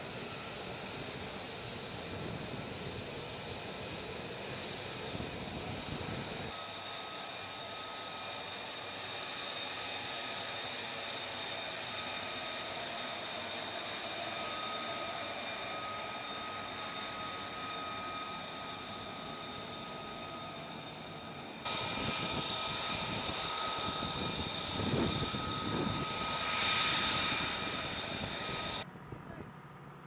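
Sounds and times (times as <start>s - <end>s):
jet engine whine: 0.0s - 29.0s.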